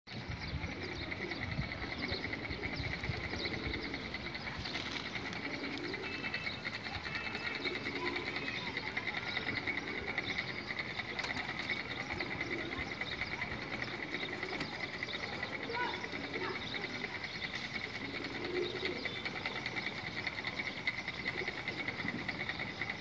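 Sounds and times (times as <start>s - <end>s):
small birds chirping: 0.1s - 23.0s
pigeons cooing: 0.2s - 23.0s.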